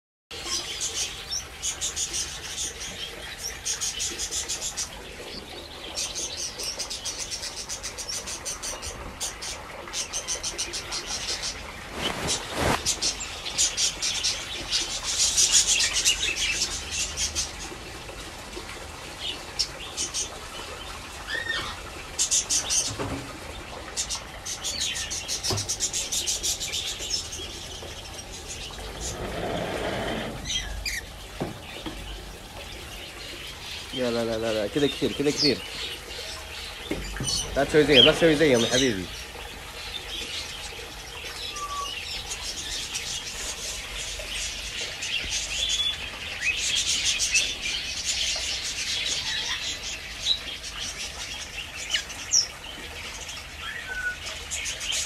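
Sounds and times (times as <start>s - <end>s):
birds chirping: 0.3s - 55.0s.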